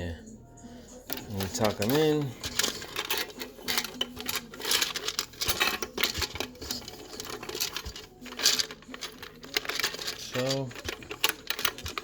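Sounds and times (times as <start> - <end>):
wires clicking and rustling: 1.0 - 12.0.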